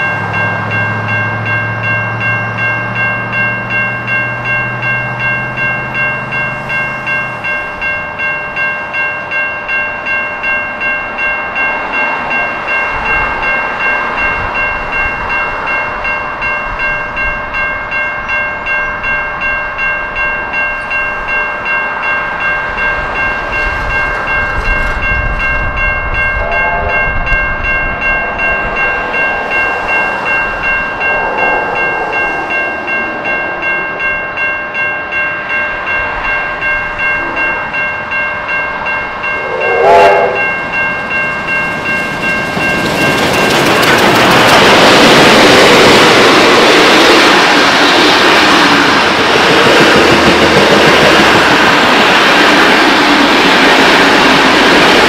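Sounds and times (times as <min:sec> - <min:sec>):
level-crossing bells ringing: 0:00.0 - 0:55.0
train rumble: 0:00.0 - 0:55.0.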